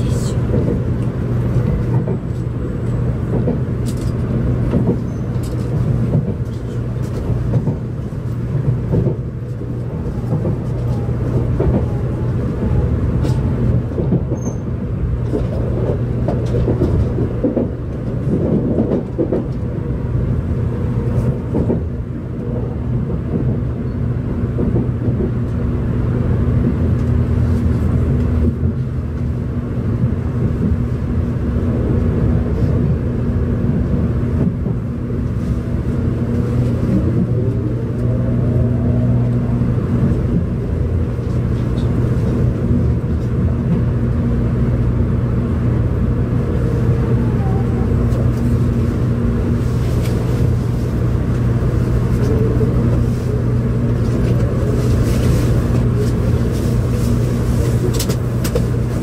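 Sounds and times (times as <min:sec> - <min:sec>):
train rumble and hum: 0:00.0 - 0:59.0.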